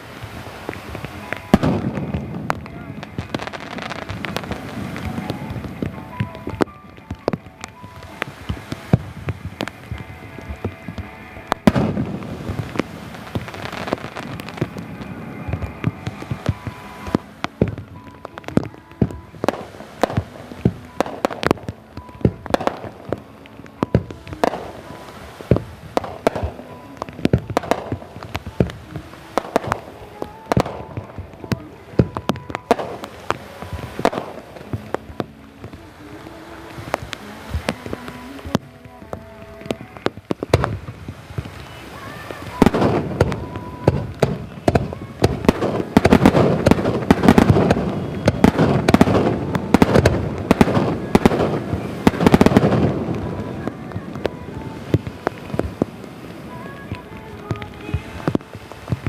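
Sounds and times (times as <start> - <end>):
fireworks bursting: 0.0 - 59.0
music playing: 0.0 - 59.0.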